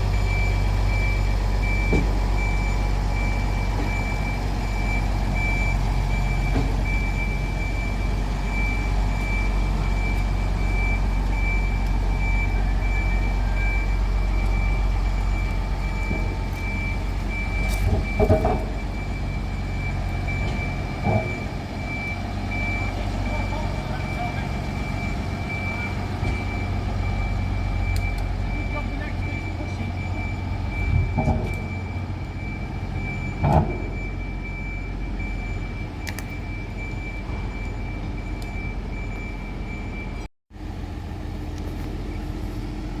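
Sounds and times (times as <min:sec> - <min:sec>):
clunks: 0:00.0 - 0:40.2
vehicle engine humming: 0:00.0 - 0:43.0
high-pitched warning beeper: 0:00.1 - 0:40.1.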